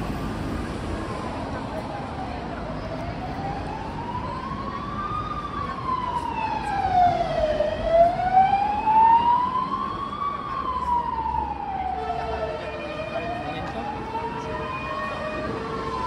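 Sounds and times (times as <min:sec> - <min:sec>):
street traffic noise: 0:00.0 - 0:16.0
emergency siren wailing: 0:01.3 - 0:16.0.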